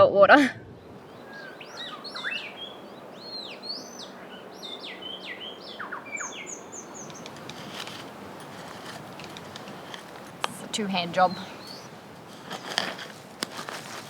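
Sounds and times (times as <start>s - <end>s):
birds singing: 0.8s - 14.0s.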